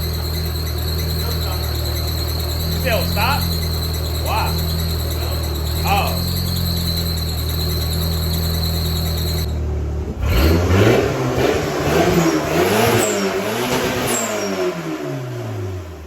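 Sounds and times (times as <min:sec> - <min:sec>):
car engine whining: 0:00.0 - 0:16.0
engine revving: 0:00.0 - 0:16.0.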